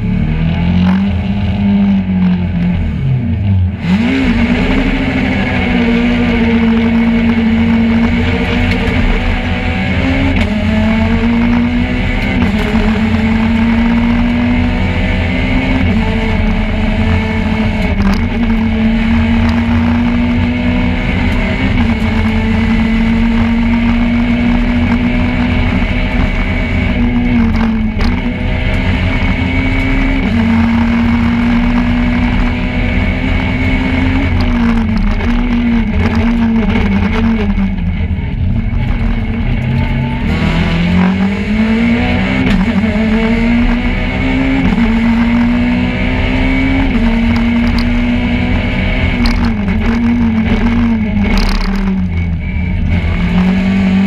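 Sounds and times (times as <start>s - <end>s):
rally car engine from inside: 0.0s - 54.0s.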